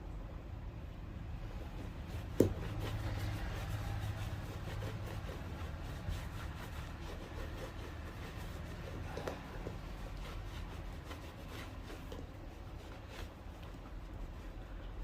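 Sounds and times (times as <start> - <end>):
rubbing on a shoe: 1.6 - 14.8.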